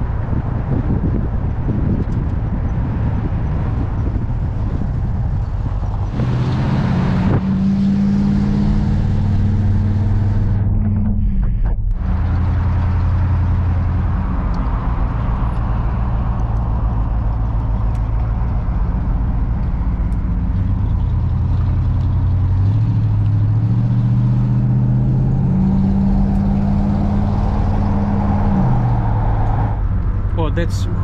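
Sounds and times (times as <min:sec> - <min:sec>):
car engine accelerating: 0:00.0 - 0:31.0
road and tyre noise: 0:00.0 - 0:31.0.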